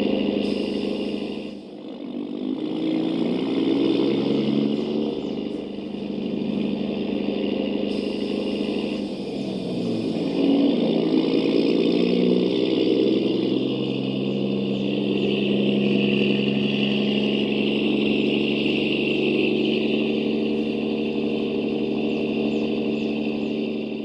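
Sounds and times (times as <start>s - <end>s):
radio-controlled truck running: 0.0s - 24.0s.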